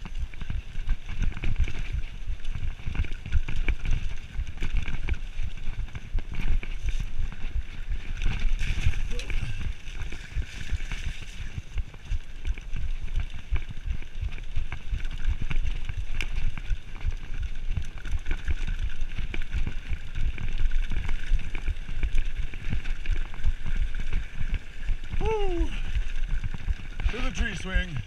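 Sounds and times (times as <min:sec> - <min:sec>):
bike tyres rumbling on dirt: 0:00.0 - 0:28.0.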